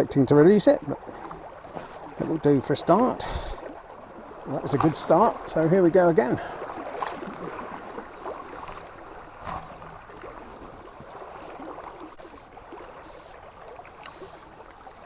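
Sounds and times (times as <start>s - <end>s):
river water rushing: 0.0s - 15.0s
small knocks and splashes: 1.1s - 15.0s.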